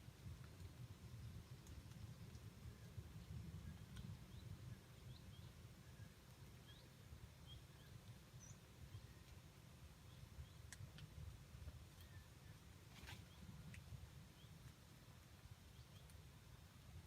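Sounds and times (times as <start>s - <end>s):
small birds chirping: 0.4s - 17.0s.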